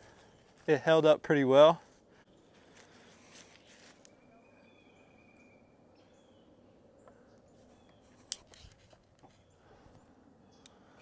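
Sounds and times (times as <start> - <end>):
distant bird calls: 2.1 - 11.0.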